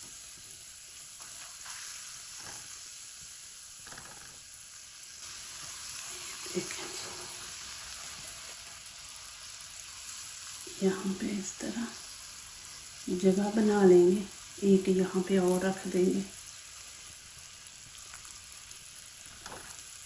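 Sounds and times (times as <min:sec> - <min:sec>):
sauce sizzling in a pan: 0:00.0 - 0:20.0.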